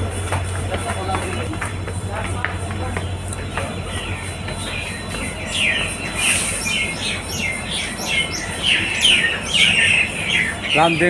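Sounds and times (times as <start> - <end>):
flock of birds chirping: 0.0 - 11.0.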